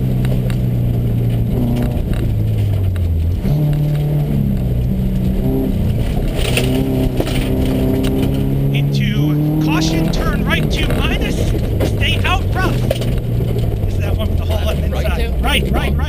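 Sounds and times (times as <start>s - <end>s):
rally car engine revving: 0.0s - 16.0s
road noise: 0.0s - 16.0s.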